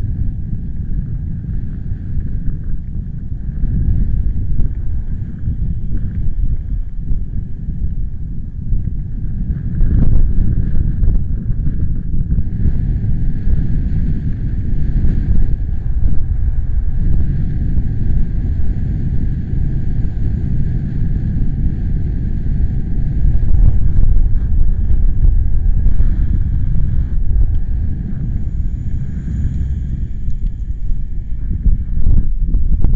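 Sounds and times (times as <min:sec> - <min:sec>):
strong wind buffeting microphone: 0:00.0 - 0:32.9.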